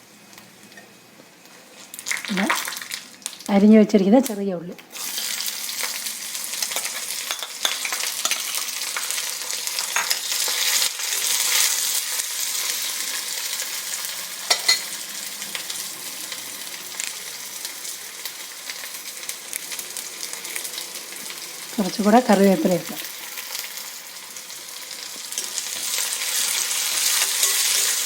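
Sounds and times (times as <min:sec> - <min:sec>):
shallots sizzling in oil: 0:00.0 - 0:28.0.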